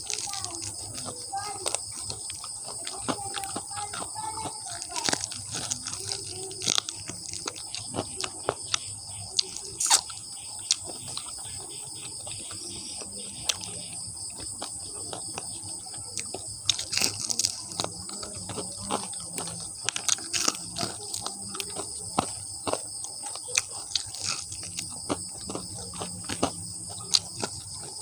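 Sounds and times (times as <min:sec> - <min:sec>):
crunchy chewing with mouth clicks: 0:00.0 - 0:28.0.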